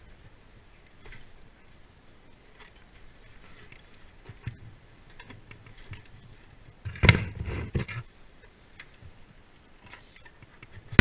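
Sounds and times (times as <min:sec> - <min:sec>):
rough scrape and rustle: 0:00.0 - 0:11.0.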